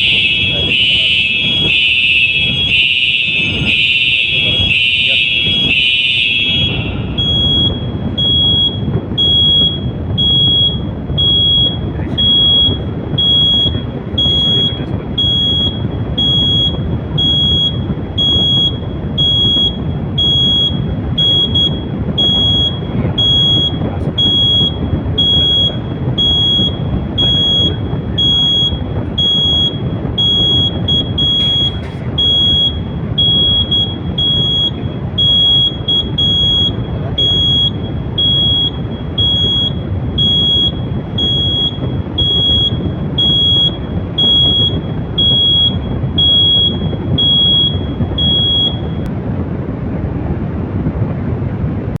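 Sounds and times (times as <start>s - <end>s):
fire alarm beeping: 0.0s - 49.1s
low background rumble: 0.0s - 52.0s.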